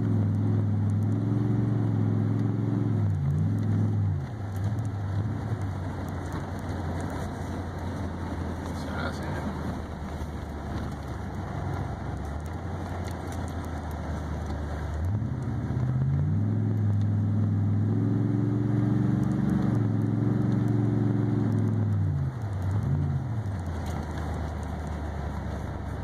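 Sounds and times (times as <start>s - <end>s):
tyres rumbling on road: 0.0s - 26.0s
vehicle engine from inside cab: 0.0s - 26.0s.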